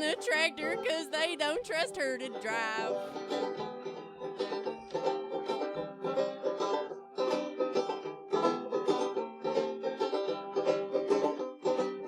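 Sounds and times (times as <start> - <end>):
plucked string instrument picking: 0.0 - 12.0.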